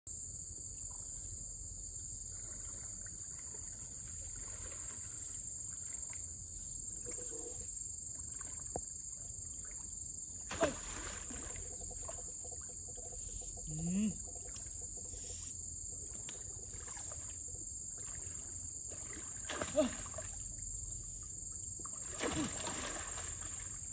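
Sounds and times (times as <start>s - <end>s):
forest ambience: 0.1s - 23.9s
water sloshing from wading: 2.0s - 23.9s.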